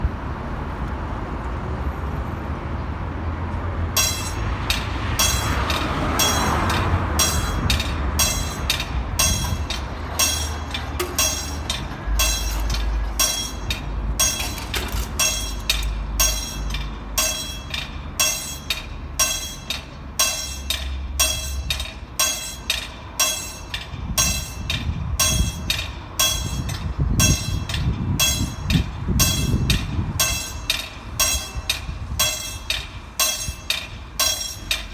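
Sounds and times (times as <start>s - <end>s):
diesel train engine rumbling: 2.6s - 34.9s
metallic dinging: 4.0s - 34.9s.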